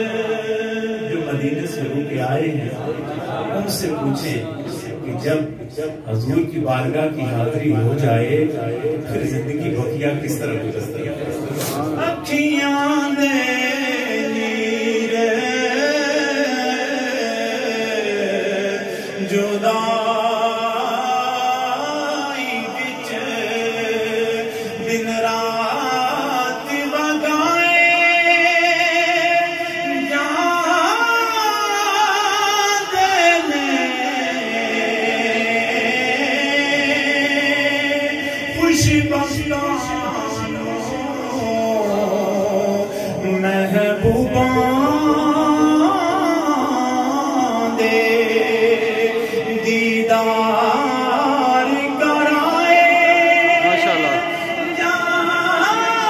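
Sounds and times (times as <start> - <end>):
man singing a chant: 0.0 - 56.0.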